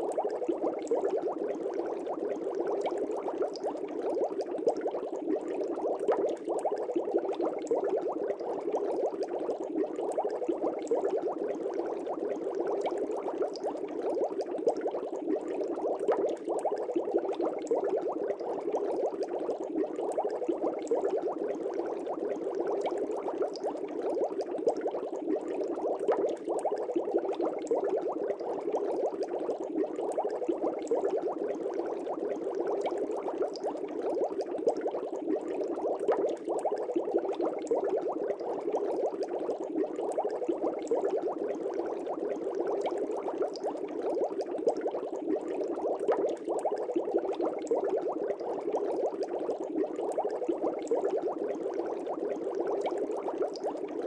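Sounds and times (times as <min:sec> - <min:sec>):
air bubbling in fish tank: 0:00.0 - 0:54.0.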